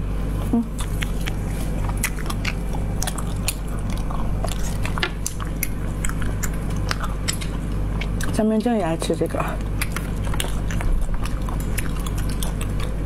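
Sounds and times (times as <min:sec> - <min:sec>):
steady low hum: 0:00.0 - 0:13.0
person chewing with mouth clicks: 0:00.3 - 0:08.8, 0:09.4 - 0:13.0.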